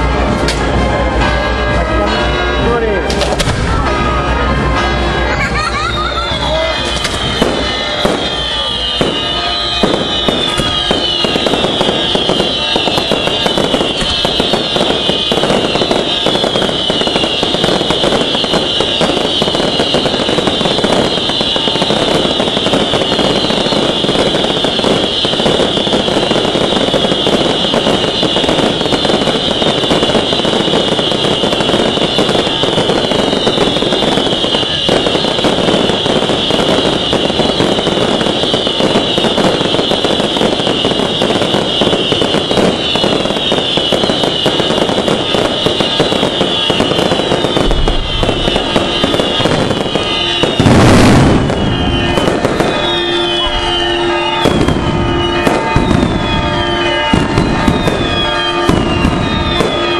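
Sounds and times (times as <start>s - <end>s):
firecracker cracks and bangs: 0.0s - 59.9s
descending firework whistles: 5.7s - 59.9s.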